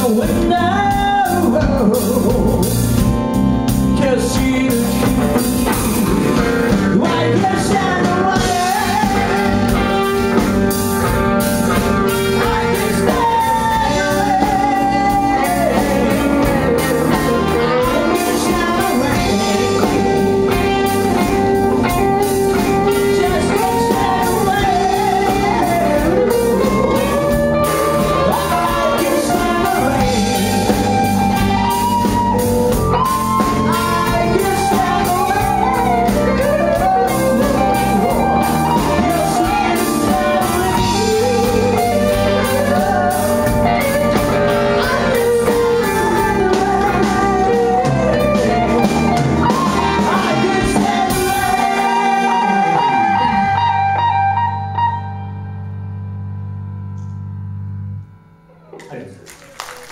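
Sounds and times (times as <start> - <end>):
person singing lead vocal: 0.0 - 54.9
drums: 0.0 - 55.1
electric bass: 0.0 - 59.1
keyboard: 0.0 - 59.2
electric guitar: 0.0 - 59.9.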